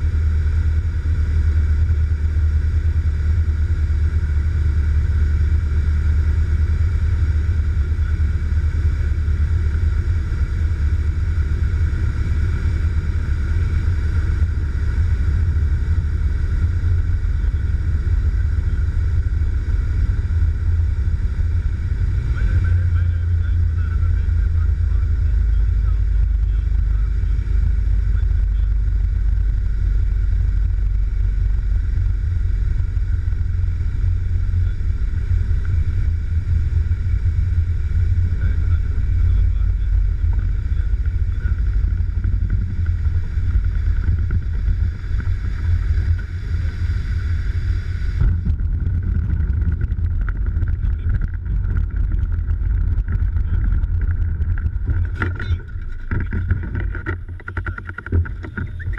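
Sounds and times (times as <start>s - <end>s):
low cockpit rumble: 0.0s - 58.9s.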